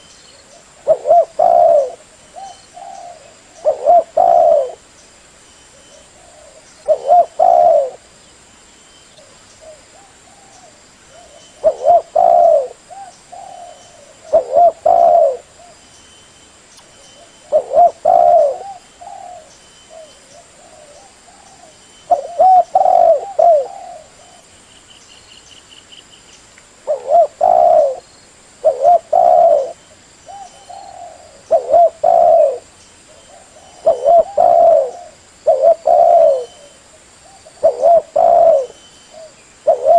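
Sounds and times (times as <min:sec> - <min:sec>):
dove cooing: 0:00.0 - 0:04.8, 0:05.7 - 0:08.1, 0:09.2 - 0:15.8, 0:17.2 - 0:24.5, 0:26.9 - 0:28.0, 0:28.6 - 0:39.9.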